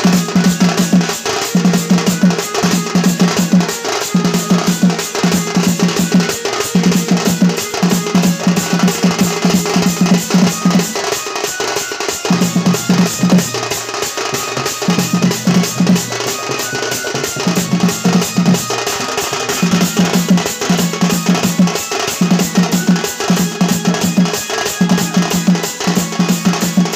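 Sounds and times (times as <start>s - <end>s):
fast drum beat: 0.0s - 26.9s.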